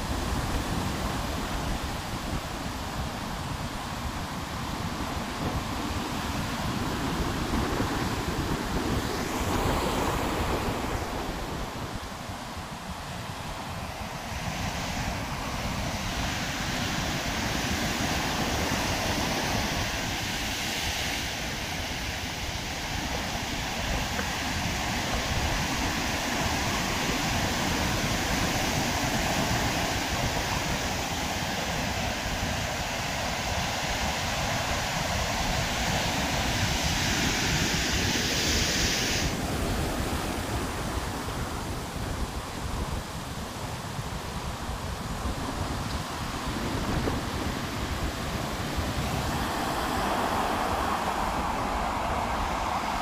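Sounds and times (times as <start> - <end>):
heavy surf breaking: 0.0 - 53.0
wind rumbling on microphone: 0.0 - 53.0.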